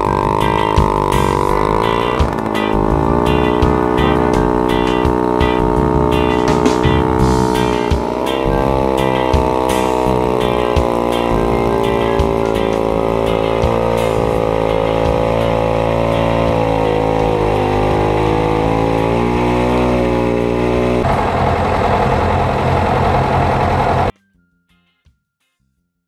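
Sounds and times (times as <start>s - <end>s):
chainsaw cutting through log: 0.0s - 24.1s
rough noisy engine: 0.0s - 24.1s.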